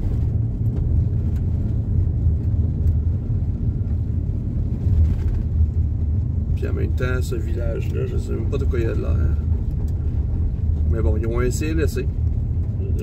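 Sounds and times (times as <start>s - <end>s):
van rumbling on gravel road: 0.0s - 13.0s.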